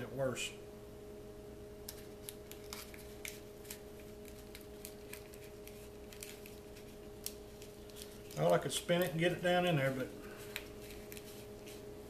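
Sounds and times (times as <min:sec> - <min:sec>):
faint steady hum: 0:00.0 - 0:12.0
paper crinkles and clicks: 0:01.9 - 0:11.8.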